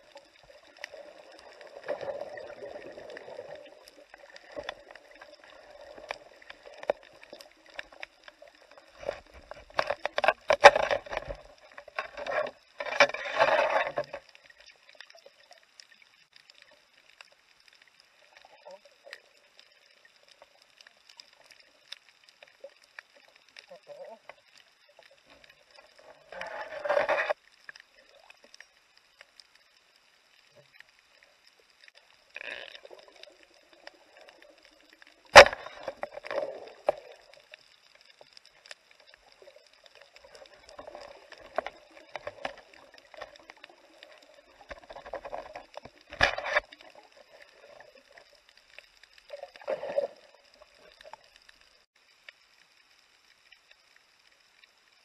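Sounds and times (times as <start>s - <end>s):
underwater water swishes: 0.0s - 55.0s.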